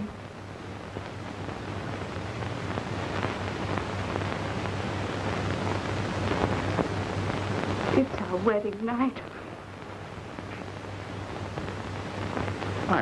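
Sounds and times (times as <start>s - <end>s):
faint crackles: 0.0s - 13.0s
steady film hiss: 0.0s - 13.0s.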